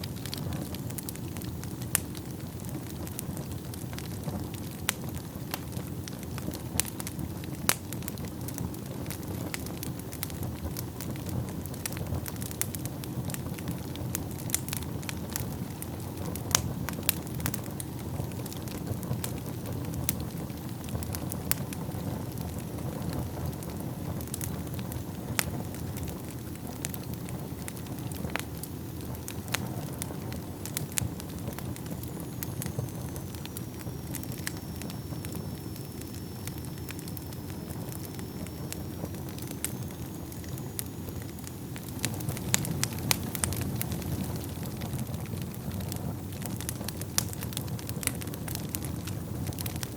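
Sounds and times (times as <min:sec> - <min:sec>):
fire crackling and popping: 0:00.0 - 0:49.9
low rumble of fire flames: 0:00.0 - 0:49.9.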